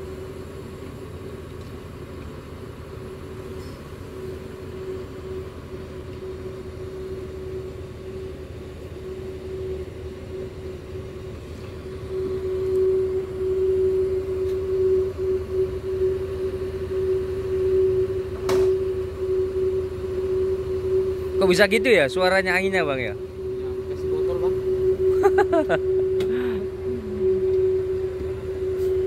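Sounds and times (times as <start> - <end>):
air release steady tone: 0.0 - 29.0.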